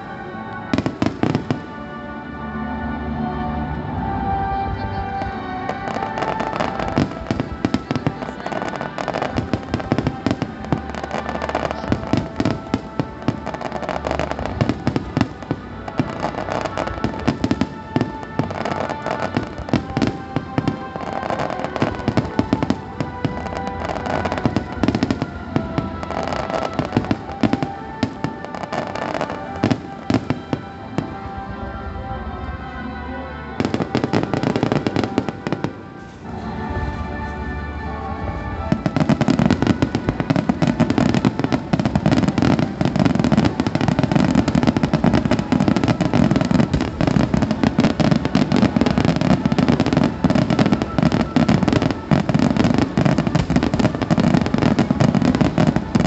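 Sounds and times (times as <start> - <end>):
fireworks bursts and crackling: 0.0 - 2.0, 4.4 - 31.4, 33.6 - 36.9, 38.4 - 56.0
music playing: 0.0 - 56.0.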